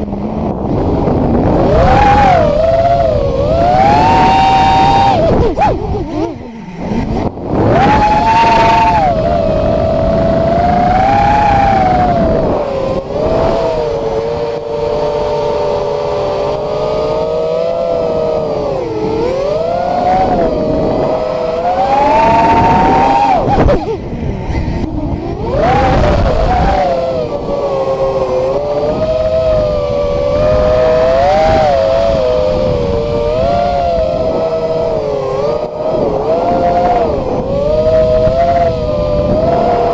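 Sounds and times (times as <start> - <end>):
low rush: 0.0 - 39.9
quadcopter motors whining: 0.0 - 39.9.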